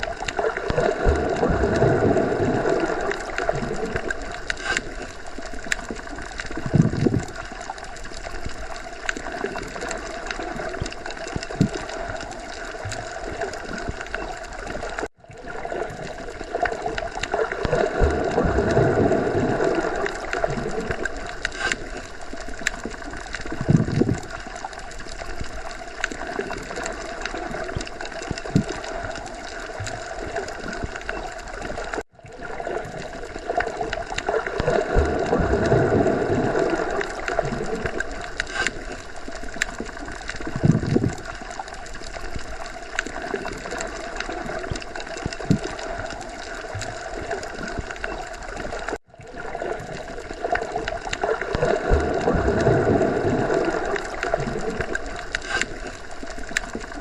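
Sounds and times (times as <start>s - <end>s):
gurgling swells: 0.0s - 57.0s
muffled underwater water wash: 0.0s - 57.0s.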